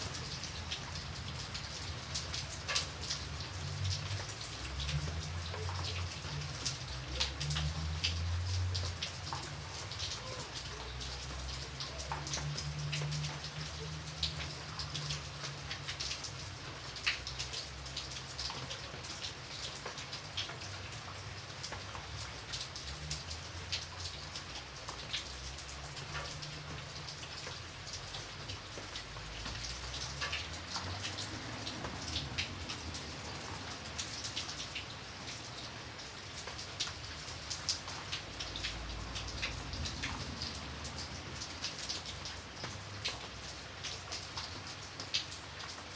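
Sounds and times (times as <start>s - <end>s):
raindrops ticking on hard surface: 0.0s - 45.9s
soft rain hiss: 0.0s - 45.9s.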